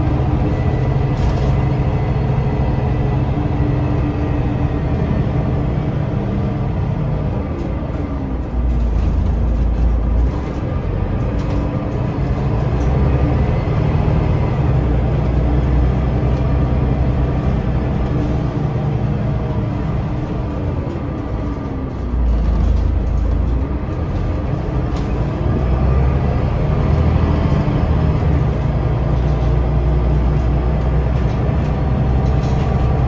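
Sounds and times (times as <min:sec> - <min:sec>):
bus diesel engine rumbling: 0:00.0 - 0:33.0.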